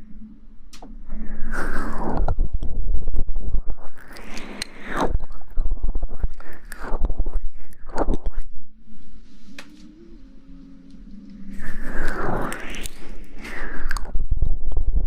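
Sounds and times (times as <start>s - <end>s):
crackling clicks: 0.7s - 15.0s.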